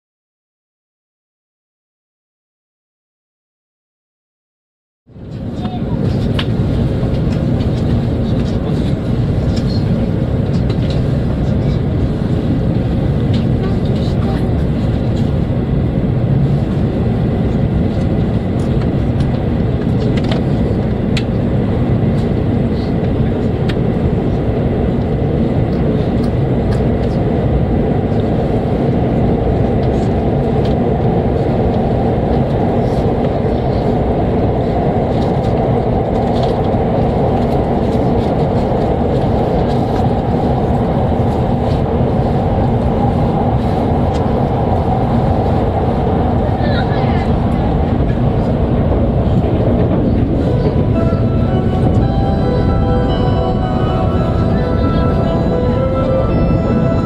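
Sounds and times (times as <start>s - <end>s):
train rumble inside cabin: 5.1s - 57.0s.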